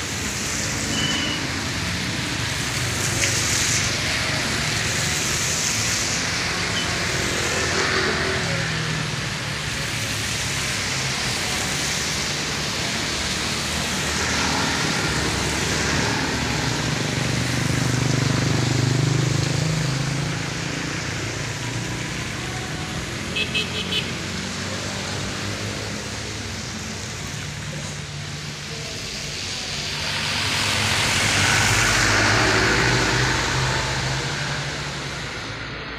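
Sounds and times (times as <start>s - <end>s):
tyres hissing on wet asphalt: 0.0s - 35.9s.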